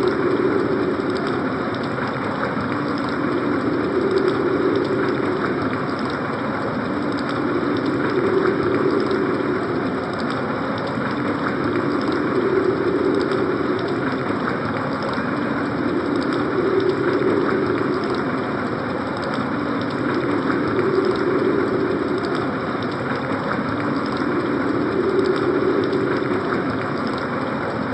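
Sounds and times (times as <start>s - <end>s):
low howl: 0.0s - 27.9s
synthesized storm rushing noise: 0.0s - 27.9s.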